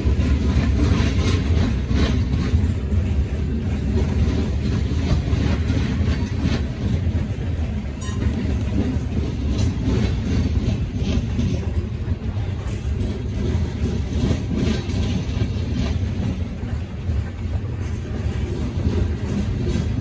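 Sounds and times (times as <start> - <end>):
clicks from rail joints: 0.0 - 20.0
train wheels rumbling on rail: 0.0 - 20.0.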